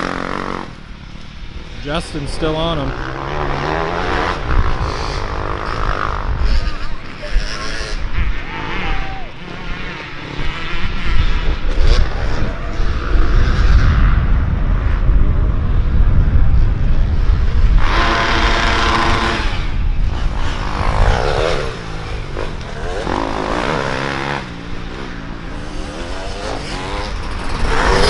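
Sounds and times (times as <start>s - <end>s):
dirt bike engines revving: 0.0s - 28.0s
heavy low rumble: 0.0s - 28.0s.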